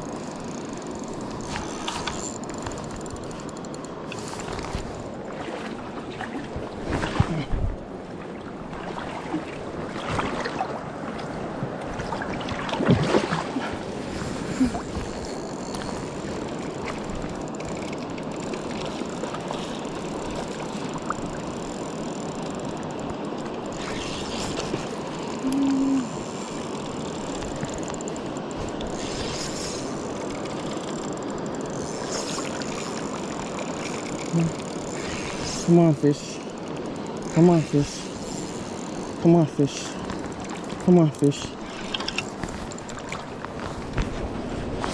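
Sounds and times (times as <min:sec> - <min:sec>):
river water rushing: 0:08.0 - 0:44.6.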